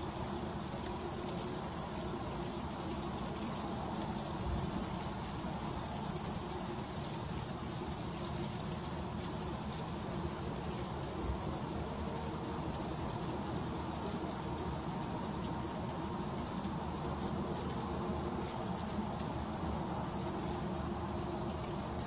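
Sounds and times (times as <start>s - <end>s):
freezing rain hissing: 0.0s - 22.0s.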